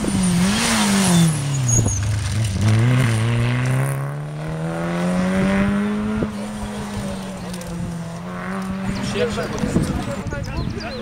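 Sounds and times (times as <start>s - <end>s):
rally car engine passing: 0.0s - 10.3s.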